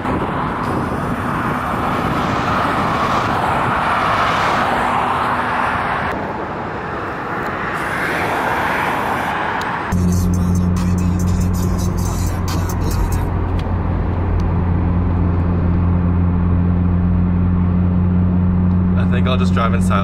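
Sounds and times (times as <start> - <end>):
highway road noise: 0.0 - 20.0.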